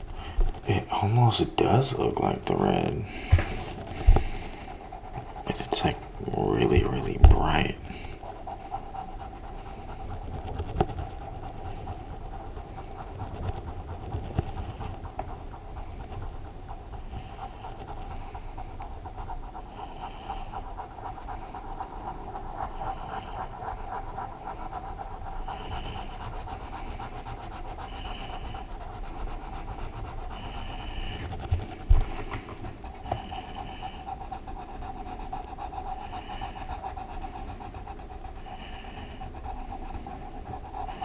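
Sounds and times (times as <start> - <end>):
colored pencil scribbling on paper: 0.0 - 41.0
heavy breathing: 0.0 - 41.0.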